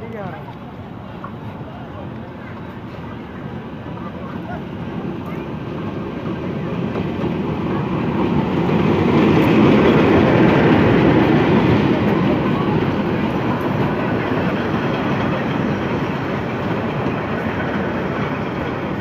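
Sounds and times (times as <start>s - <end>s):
train passing with wheel rumble: 0.0s - 19.0s.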